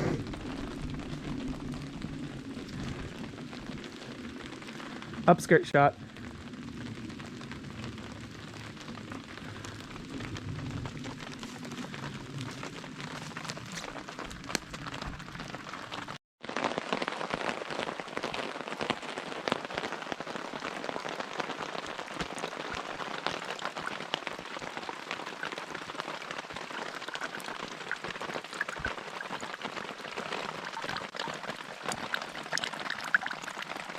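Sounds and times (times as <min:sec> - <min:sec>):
heavy rain with ticking drops: 0:00.0 - 0:33.9.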